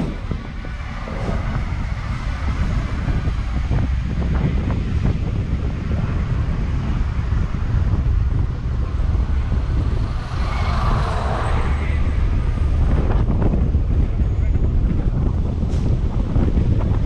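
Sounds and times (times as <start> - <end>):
bus engine and road rumble: 0.0 - 17.0
bus passing by: 0.0 - 17.0
wind buffeting microphone: 0.0 - 17.0.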